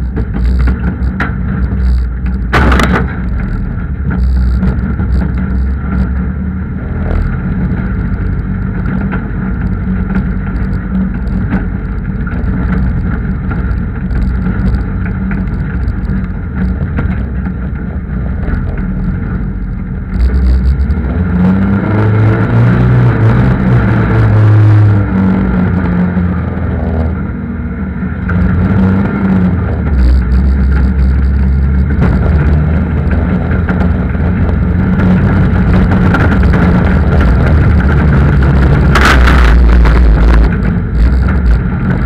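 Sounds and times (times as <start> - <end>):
chassis knocks and clatter: 0.0 - 27.2, 28.2 - 42.0
diesel engine revving: 0.0 - 42.0.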